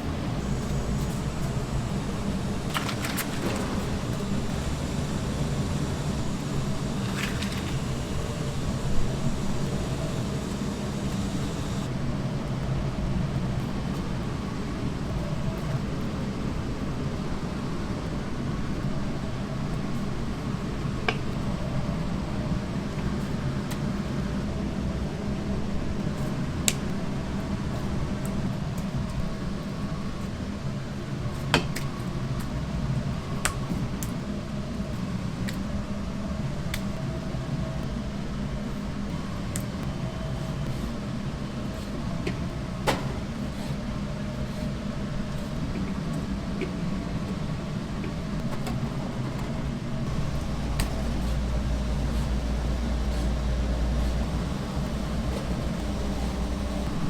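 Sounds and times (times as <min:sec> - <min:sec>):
ventilation fan hum: 0:00.0 - 0:57.0.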